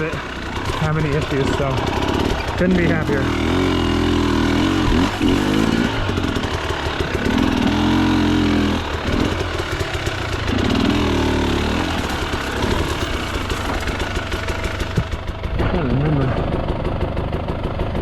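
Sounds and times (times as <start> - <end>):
dirt bike engine revving: 0.0 - 17.1.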